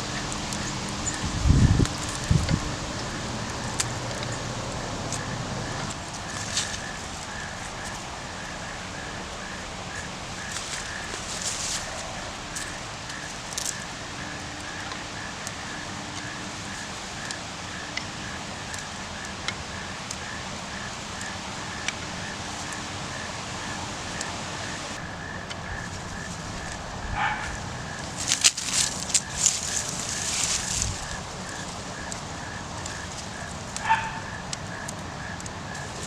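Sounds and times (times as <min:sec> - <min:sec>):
background hiss: 0:00.0 - 0:36.0
regular chirping: 0:00.0 - 0:36.0.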